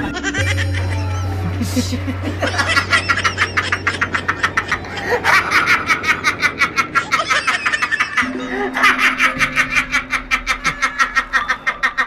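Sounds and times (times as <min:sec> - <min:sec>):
loud rapid laughter: 0:00.0 - 0:12.0.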